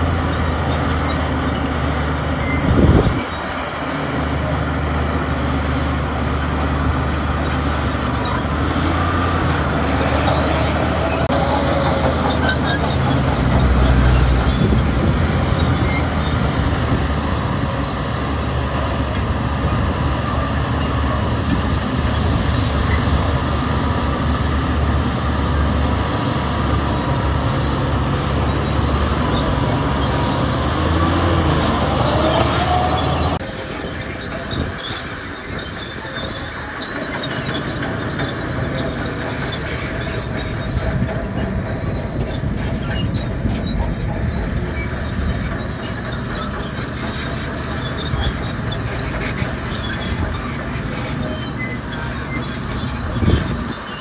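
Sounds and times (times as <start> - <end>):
diesel engine running: 0.0 - 54.0
metallic squealing and clanking: 0.0 - 54.0.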